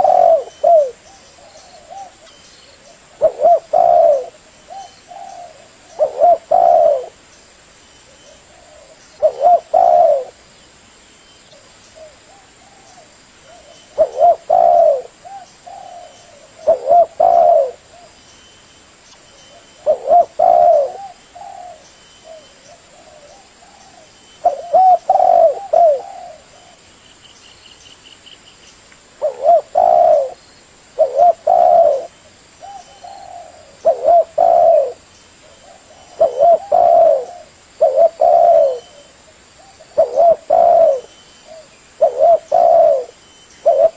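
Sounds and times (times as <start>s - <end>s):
dove cooing: 0.0s - 7.2s, 8.1s - 10.4s, 11.6s - 18.2s, 19.4s - 26.8s, 29.2s - 30.4s, 31.0s - 43.9s.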